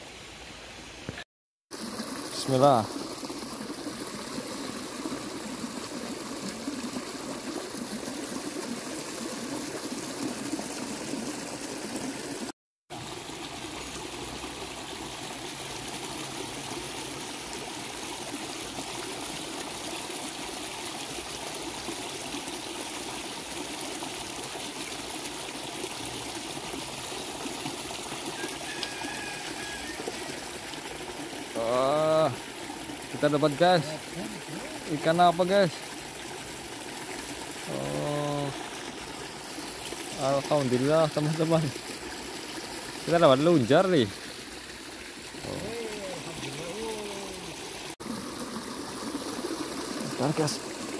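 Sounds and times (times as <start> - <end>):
stream trickling over rocks: 0.0 - 50.9.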